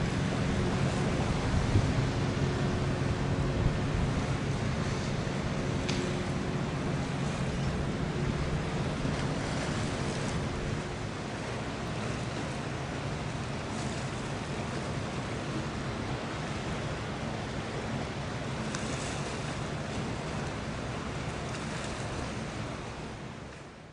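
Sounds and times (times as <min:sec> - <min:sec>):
low engine drone: 0:00.0 - 0:23.9
open water rushing: 0:00.0 - 0:23.9
wind: 0:00.0 - 0:23.9.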